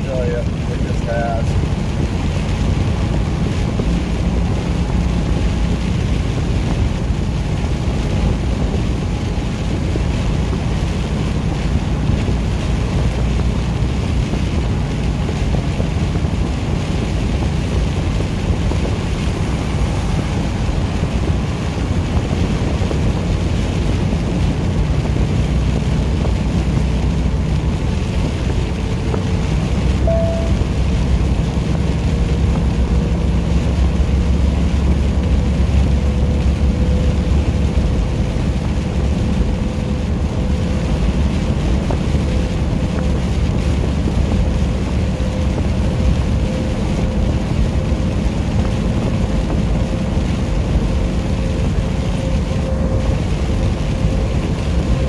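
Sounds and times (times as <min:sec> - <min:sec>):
truck engine and tyre rumble: 0:00.0 - 0:55.0
tyres hissing on wet road: 0:00.0 - 0:55.0.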